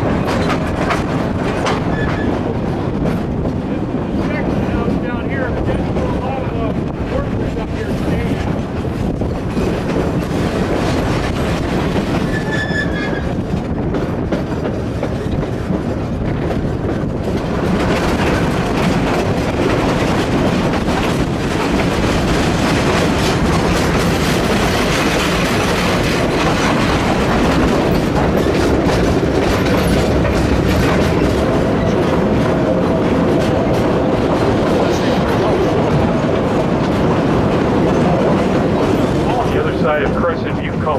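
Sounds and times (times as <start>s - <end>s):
clickety-clack of wheels on rail joints: 0.0s - 40.9s
train car rolling rumble: 0.0s - 40.9s.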